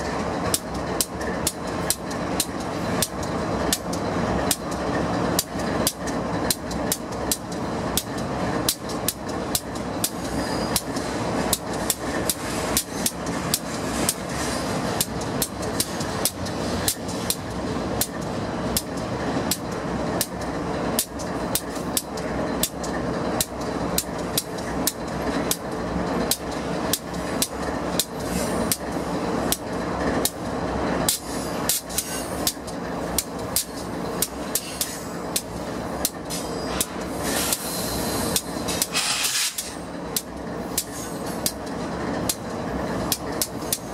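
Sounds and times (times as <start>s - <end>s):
diesel locomotive idling hum: 0.0s - 43.9s
train rolling rumble: 0.0s - 43.9s
train wheels clacking on rails: 0.0s - 43.9s.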